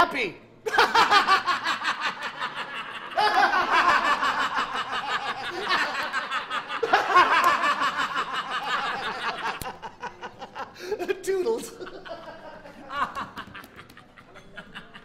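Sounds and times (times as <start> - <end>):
men laughing hard: 0.7 - 15.0.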